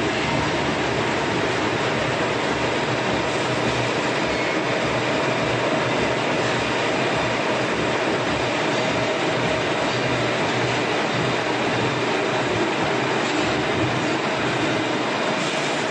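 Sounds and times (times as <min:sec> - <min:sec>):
veneer peeling machinery: 0:00.0 - 0:15.9.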